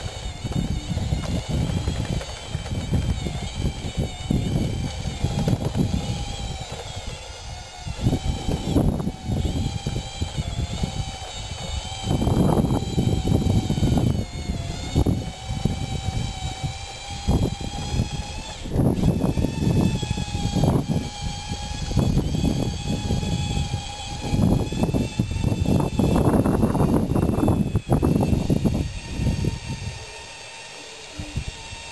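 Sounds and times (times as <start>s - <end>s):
low rumbling: 0.0s - 30.2s
toy bulldozer motor whine: 0.0s - 31.9s.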